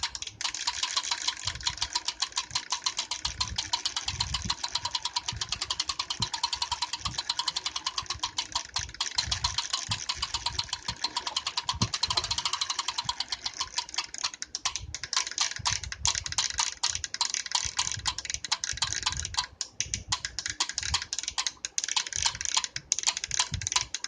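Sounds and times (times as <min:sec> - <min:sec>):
bike trainer grinding clicks: 0:00.0 - 0:24.0.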